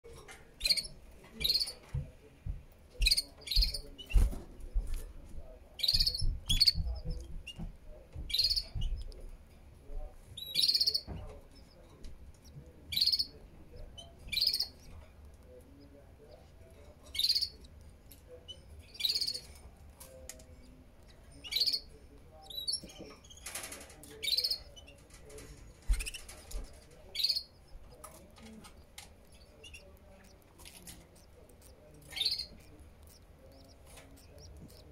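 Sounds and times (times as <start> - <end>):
canary chirping: 0.0 - 2.1, 2.8 - 34.9
nest bumping and rustling: 0.1 - 15.6, 22.5 - 34.9.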